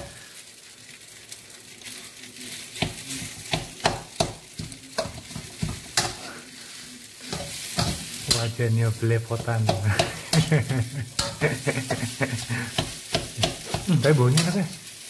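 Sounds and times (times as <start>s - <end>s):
frying sizzle: 0.0s - 15.0s
metal spatula scraping a wok: 1.8s - 8.6s, 9.4s - 15.0s.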